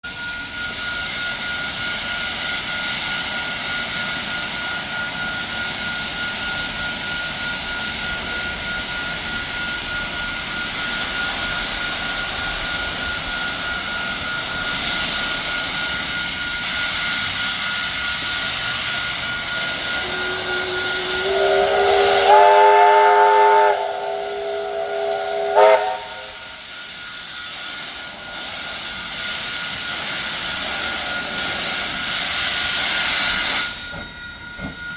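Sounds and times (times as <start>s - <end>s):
steam locomotive whistle: 0.1s - 34.8s
steam hissing: 0.1s - 34.9s.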